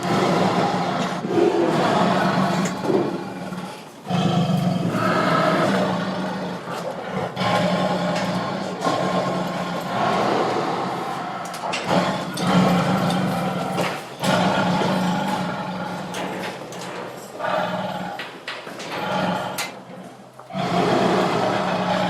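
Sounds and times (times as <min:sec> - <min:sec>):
tiger roaring: 0:00.0 - 0:22.0.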